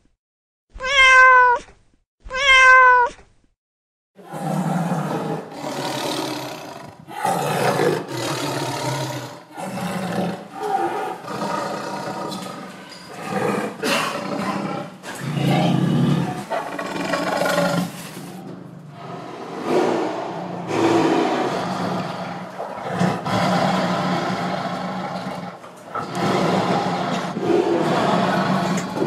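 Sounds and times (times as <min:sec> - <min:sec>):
tiger roaring: 0:04.2 - 0:29.0.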